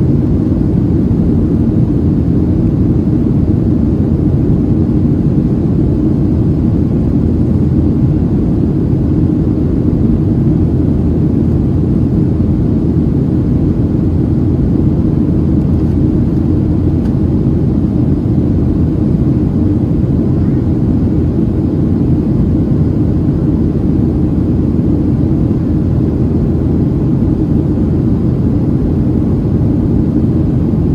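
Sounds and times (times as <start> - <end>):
jet engines rumbling: 0.0 - 30.9.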